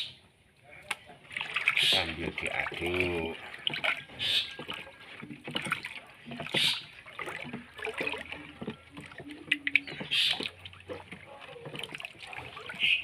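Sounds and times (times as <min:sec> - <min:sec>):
hand stirring liquid in bucket: 0:00.0 - 0:13.0
liquid pouring from bottle: 0:01.3 - 0:13.0.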